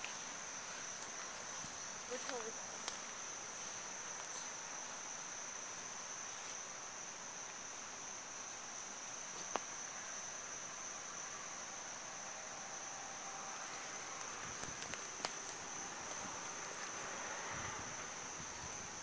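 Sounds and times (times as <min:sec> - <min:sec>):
insects droning: 0:00.0 - 0:19.0
soft hiss: 0:00.0 - 0:19.0.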